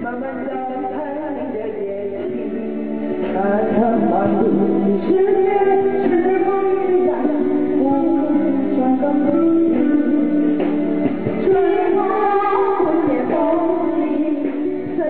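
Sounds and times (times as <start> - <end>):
song with singing voice: 0.0 - 15.0.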